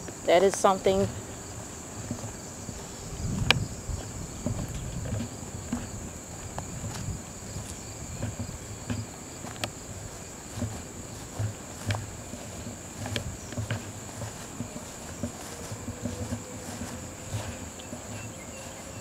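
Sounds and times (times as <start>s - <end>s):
footsteps on garden path: 0.0s - 19.0s
high-pitched insect chorus: 0.0s - 19.0s.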